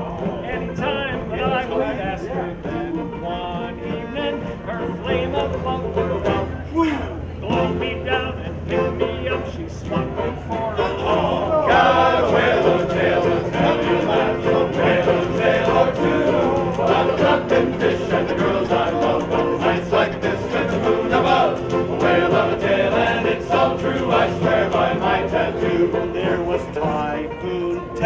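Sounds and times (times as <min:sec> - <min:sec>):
group singing a folk song: 0:00.0 - 0:28.0
instrumental backing: 0:00.0 - 0:28.0.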